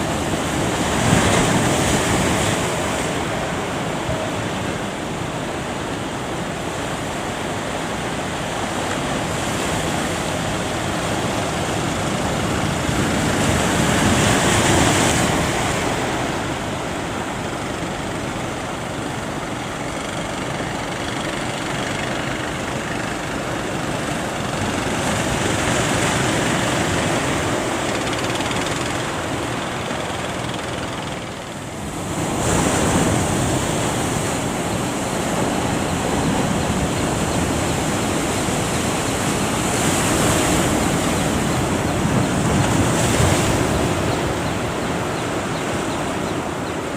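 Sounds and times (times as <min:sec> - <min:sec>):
heavy surf breaking: 0:00.0 - 0:45.5.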